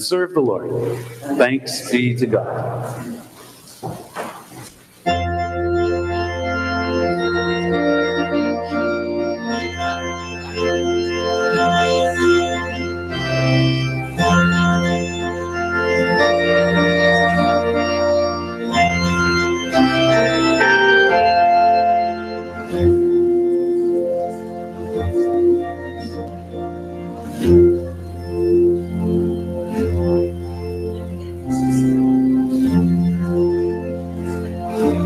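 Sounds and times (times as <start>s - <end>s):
organ playing sustained chords: 0.0s - 3.6s, 5.1s - 35.0s.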